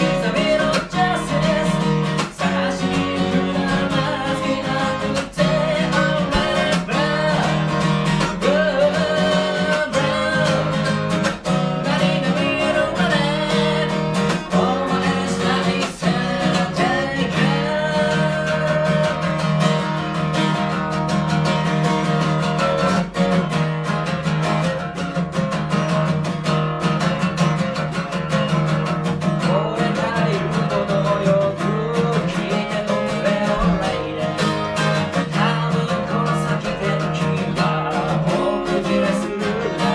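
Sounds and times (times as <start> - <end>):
man singing: 0.0 - 20.8, 28.5 - 39.9
acoustic guitar strumming: 0.0 - 39.9.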